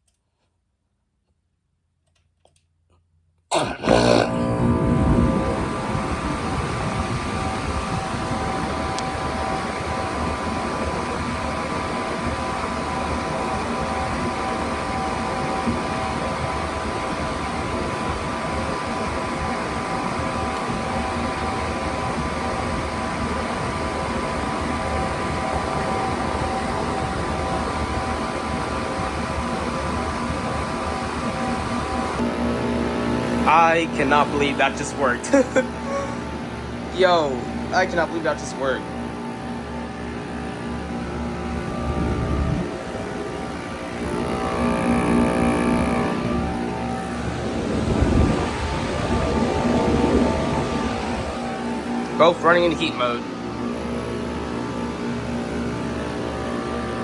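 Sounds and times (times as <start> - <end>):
heater fan whirring: 3.5 - 57.0.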